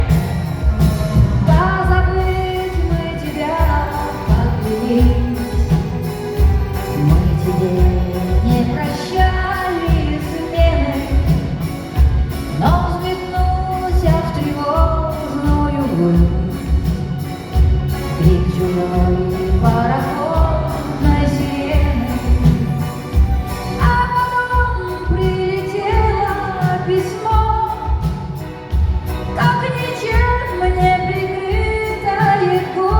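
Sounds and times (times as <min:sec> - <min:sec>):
band playing steady beat: 0:00.0 - 0:32.9
woman singing pop song: 0:01.2 - 0:32.9.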